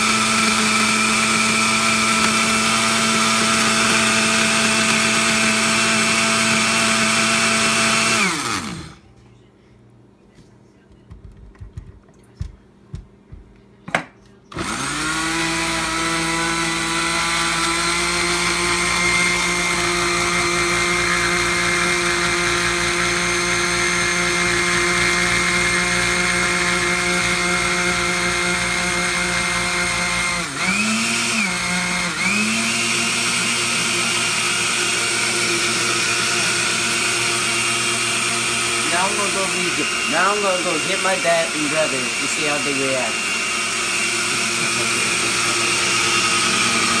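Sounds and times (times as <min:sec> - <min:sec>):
blender motor churning: 0:00.0 - 0:09.0, 0:14.5 - 0:47.0.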